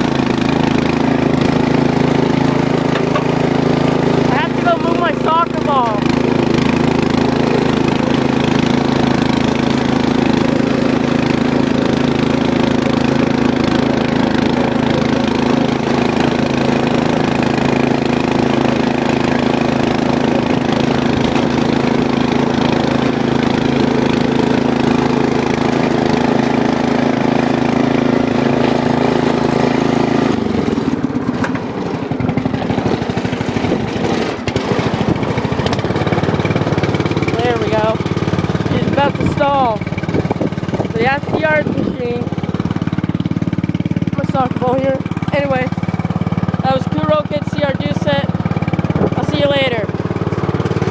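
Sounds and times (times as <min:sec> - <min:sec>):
riding lawn mower engine: 0:00.0 - 0:50.9.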